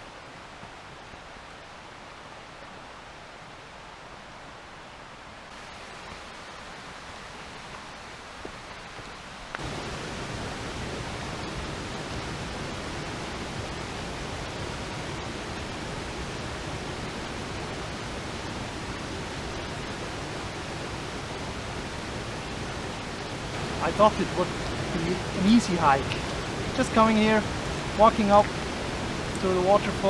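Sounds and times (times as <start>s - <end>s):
rushing river water: 0.0s - 30.0s.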